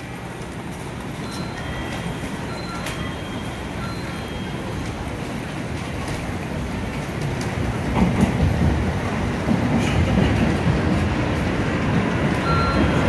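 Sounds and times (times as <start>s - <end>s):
train arriving rumble and rush: 0.0s - 13.0s.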